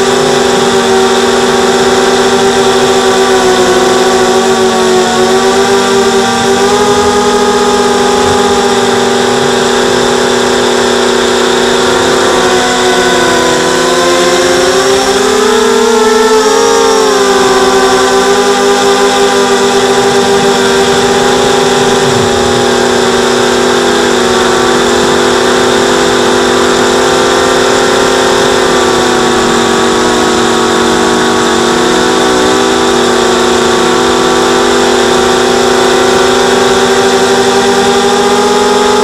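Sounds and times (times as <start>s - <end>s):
drone motors whining: 0.0s - 39.0s.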